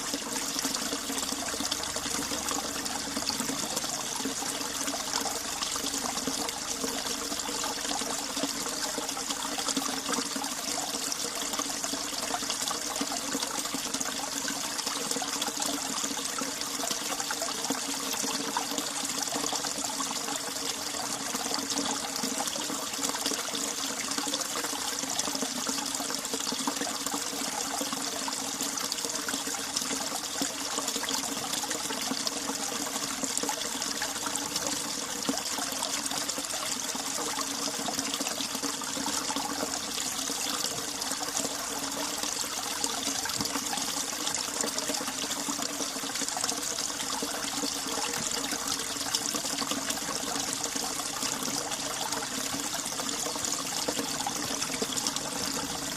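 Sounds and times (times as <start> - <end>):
mountain stream trickling: 0.0 - 55.9.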